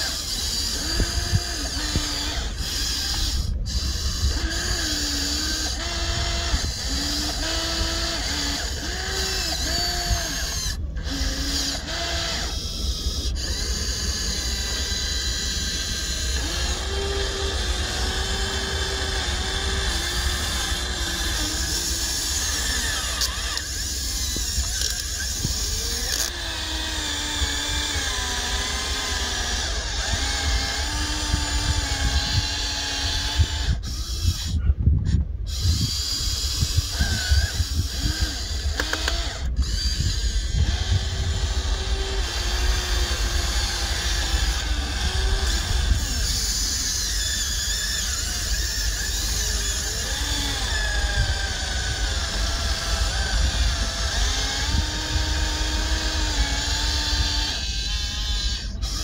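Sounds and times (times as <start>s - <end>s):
small electric motors whining: 0.0s - 59.0s.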